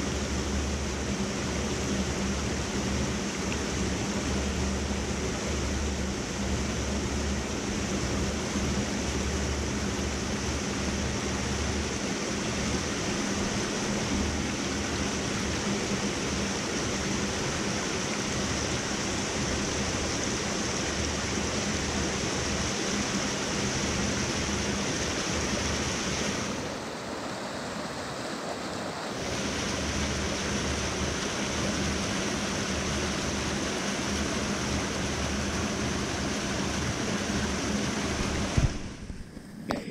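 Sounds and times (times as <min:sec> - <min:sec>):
stream rushing over rocks: 0:00.0 - 0:39.8.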